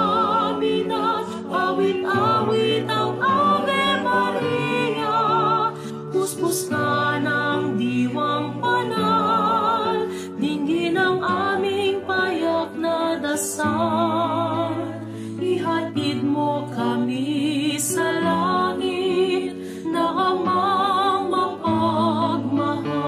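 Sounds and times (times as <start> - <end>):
choir singing a hymn: 0.0 - 23.0
woman singing with vibrato: 0.0 - 23.0.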